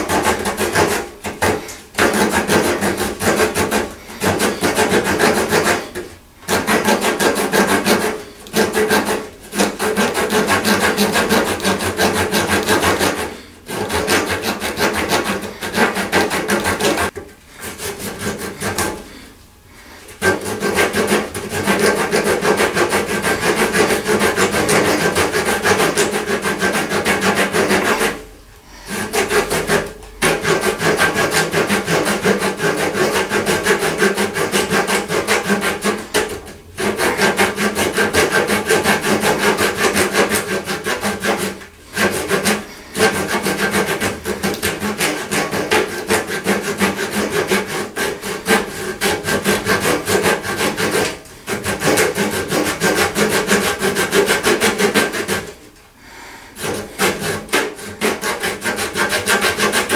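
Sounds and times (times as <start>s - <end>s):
hand saw cutting wood: 0.0s - 19.3s, 19.9s - 55.8s, 56.4s - 59.9s.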